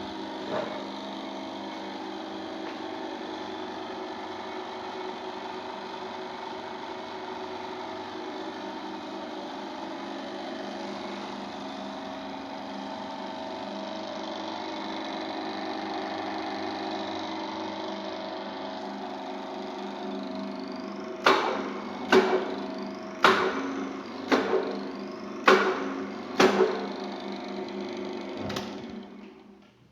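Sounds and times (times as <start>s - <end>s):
drill press humming: 0.0s - 29.9s.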